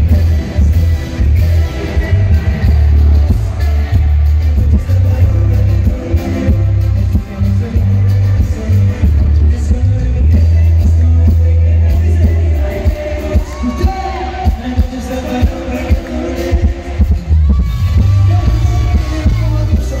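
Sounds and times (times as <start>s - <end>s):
amplified music with heavy bass: 0.0s - 20.0s
men singing into microphones: 0.0s - 20.0s.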